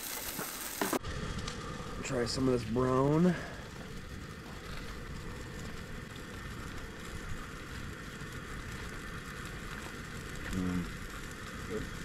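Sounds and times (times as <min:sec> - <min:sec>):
even hiss: 0:00.0 - 0:12.0
low rumble: 0:00.9 - 0:12.0.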